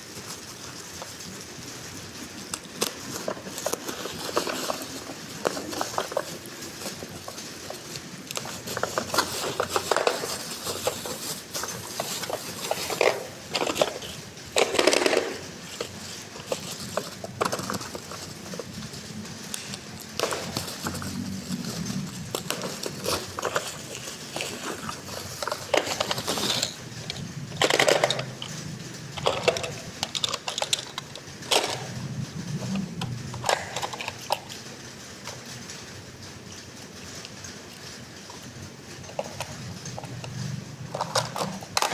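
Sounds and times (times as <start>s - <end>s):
plastic toy parts clattering: 0.0s - 36.0s, 37.0s - 41.9s.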